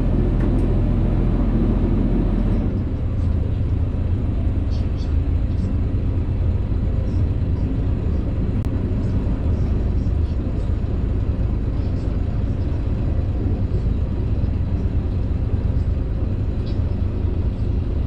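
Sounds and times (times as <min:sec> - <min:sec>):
boat motor rumbling: 0:00.0 - 0:18.0.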